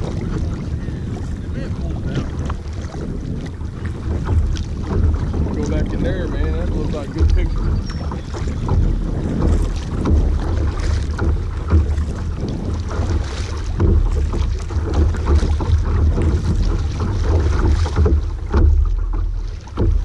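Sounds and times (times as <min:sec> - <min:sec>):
paddle splashing in water: 0:00.0 - 0:20.0
wind rumble on microphone: 0:00.0 - 0:20.0.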